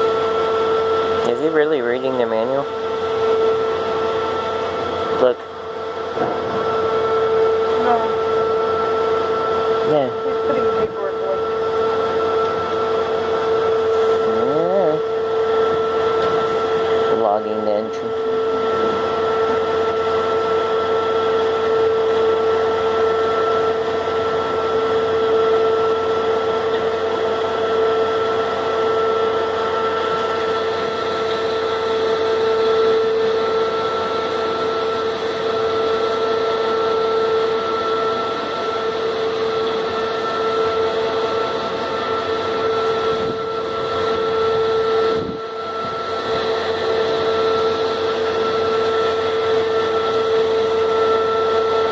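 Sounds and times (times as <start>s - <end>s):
machinery hum with whine: 0.0s - 51.9s.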